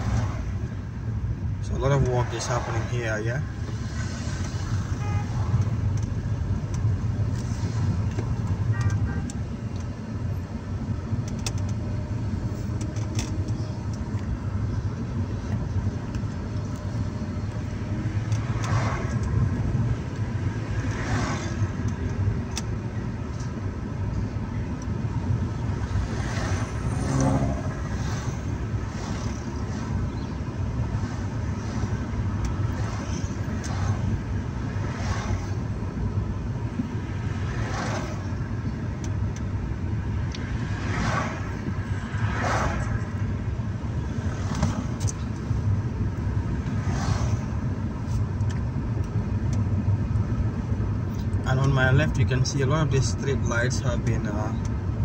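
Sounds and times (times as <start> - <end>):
car engine and road noise: 0.0 - 55.0
passing vehicles swishing: 0.0 - 55.0.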